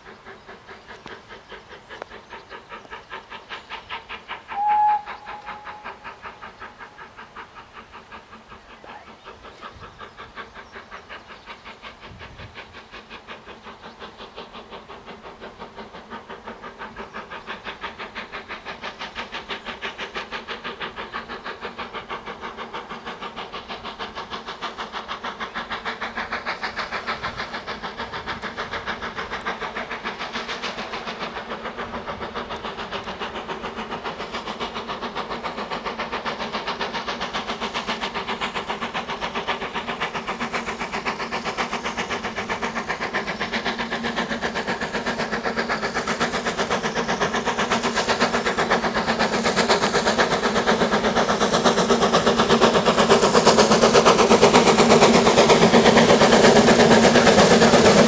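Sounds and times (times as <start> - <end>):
steam locomotive exhaust beating: 0.0 - 58.0.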